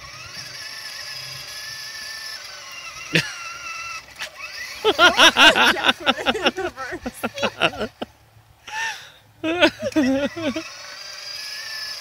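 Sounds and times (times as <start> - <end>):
toy car motor whining: 0.0 - 8.0, 9.6 - 12.0.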